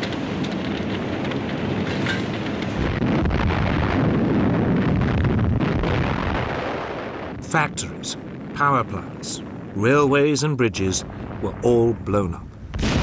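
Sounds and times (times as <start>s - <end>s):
crackling noise: 0.0s - 13.0s
dense loud rumbling: 0.0s - 13.0s.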